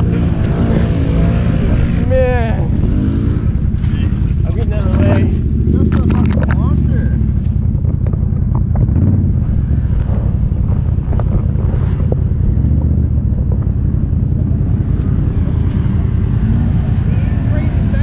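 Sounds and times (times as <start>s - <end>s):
wind buffeting microphone: 0.0s - 18.0s
atv engine idling: 1.6s - 18.0s.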